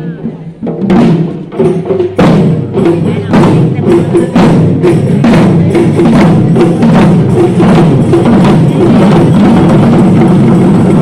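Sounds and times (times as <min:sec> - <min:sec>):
drums beaten by drummers: 0:00.0 - 0:11.0.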